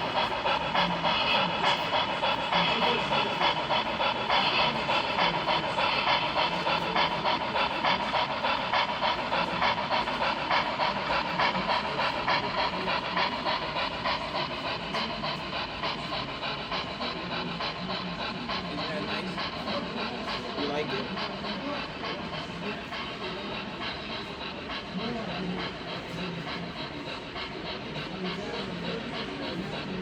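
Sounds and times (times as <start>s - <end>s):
model steam locomotive chuffing: 0.0s - 30.0s.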